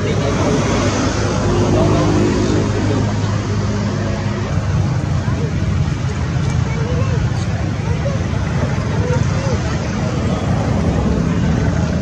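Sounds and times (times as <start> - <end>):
low motor drone: 0.0 - 12.0
wash of noise: 0.0 - 12.0.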